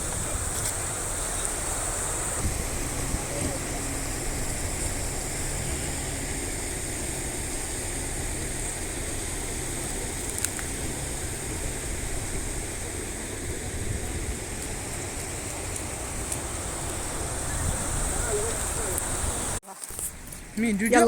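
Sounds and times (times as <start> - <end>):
stream water rushing: 0.0 - 19.6.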